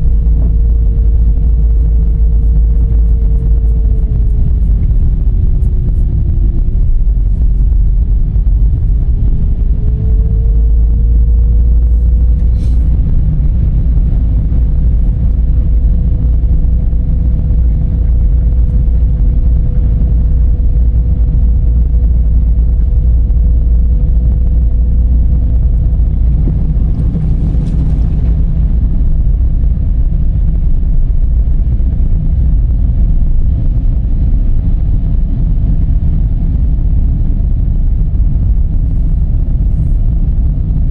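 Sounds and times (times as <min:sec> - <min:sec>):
car road and engine rumble: 0:00.0 - 0:40.9
faint hum: 0:00.0 - 0:40.9.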